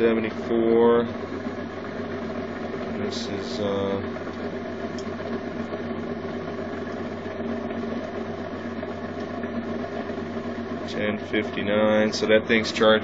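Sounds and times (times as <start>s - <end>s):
motor wheel spinning hum: 0.0s - 13.0s.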